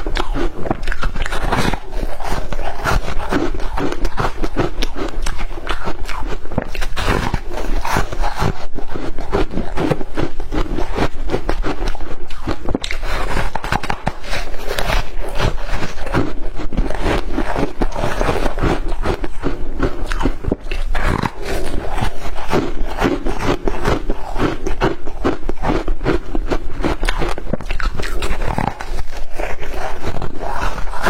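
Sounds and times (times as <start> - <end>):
chewing shaved ice crunches: 0.0 - 31.0.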